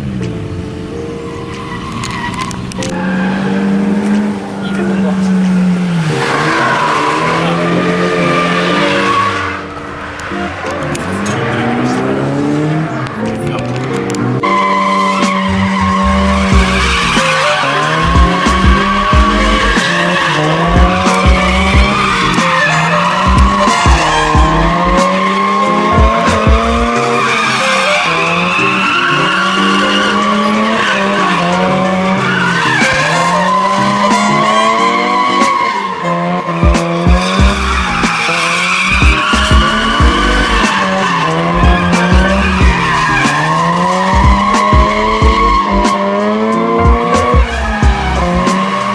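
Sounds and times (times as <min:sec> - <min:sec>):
tyres squealing: 0:01.1 - 0:48.9
rotary engine revving: 0:01.4 - 0:48.9.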